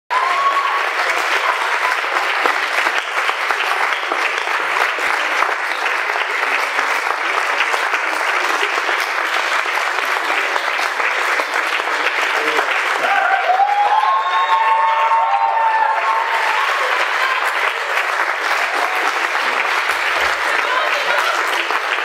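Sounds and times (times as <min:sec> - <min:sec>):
audience applauding: 0:00.1 - 0:22.0.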